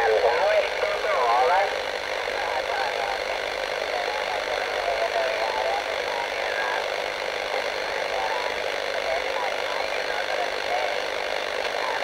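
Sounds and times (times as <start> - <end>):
faint radio voice: 0.0 - 12.0
radio hiss and static: 0.0 - 12.0.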